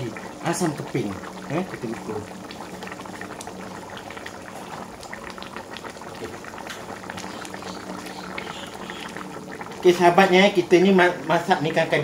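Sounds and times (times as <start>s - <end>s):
curry bubbling in a wok: 0.0s - 12.0s.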